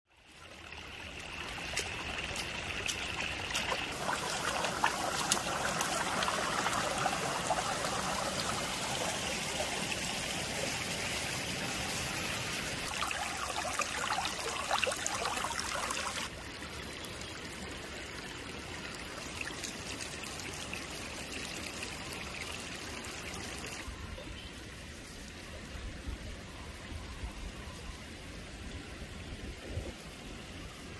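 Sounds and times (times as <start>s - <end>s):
stream trickling over rocks: 0.1s - 27.0s.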